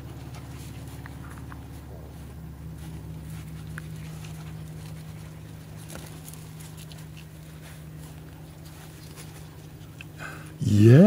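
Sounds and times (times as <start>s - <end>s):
paws on gravel: 0.0s - 10.6s
steady low hum: 0.0s - 11.0s.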